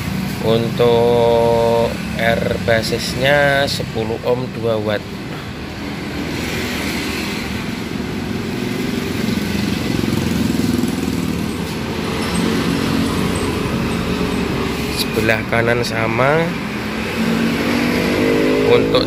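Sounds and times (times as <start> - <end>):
traffic noise: 0.0 - 19.0
vehicle engine passing: 0.0 - 19.0.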